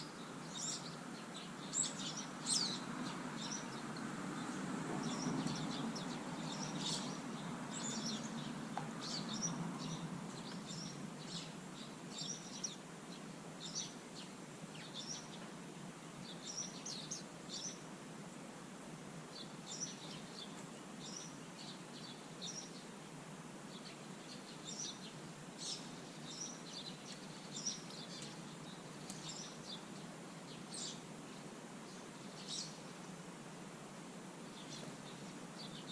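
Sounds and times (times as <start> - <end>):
small birds chirping: 0.0 - 18.5, 19.2 - 33.6, 34.4 - 35.9.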